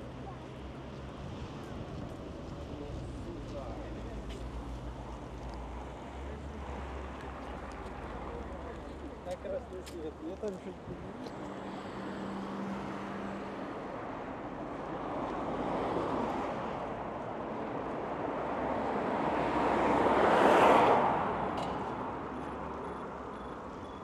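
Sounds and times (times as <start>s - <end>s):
cars passing on street: 0.0s - 24.0s.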